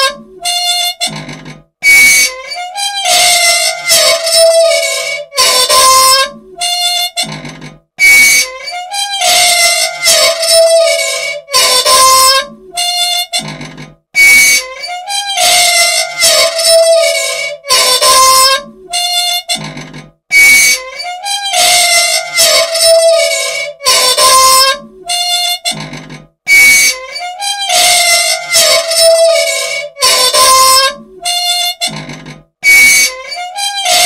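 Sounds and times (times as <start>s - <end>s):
machine squealing and squeaking: 0.0s - 34.0s.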